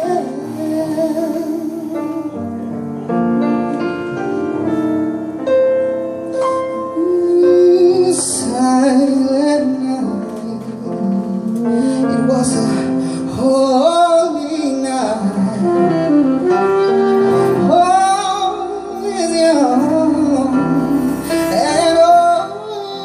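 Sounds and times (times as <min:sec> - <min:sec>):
jazz combo playing: 0:00.0 - 0:23.0.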